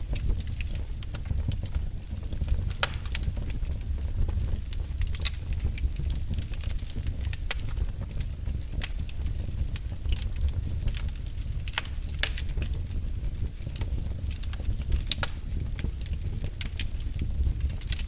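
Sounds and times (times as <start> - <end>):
fire crackling and popping: 0.0 - 18.0
low fire rumble: 0.0 - 18.0.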